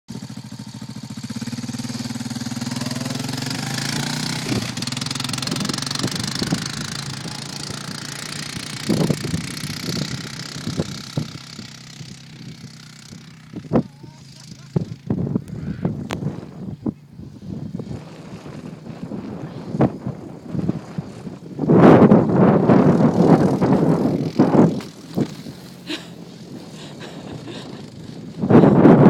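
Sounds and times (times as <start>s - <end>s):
quad bike engine running: 0.1s - 29.0s.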